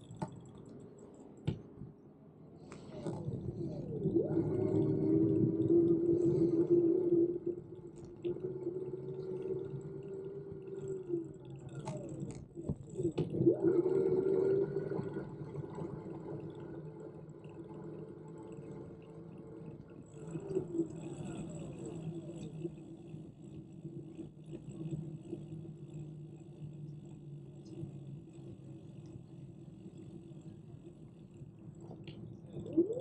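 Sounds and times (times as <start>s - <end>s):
electric hub motor whining: 2.9s - 33.0s.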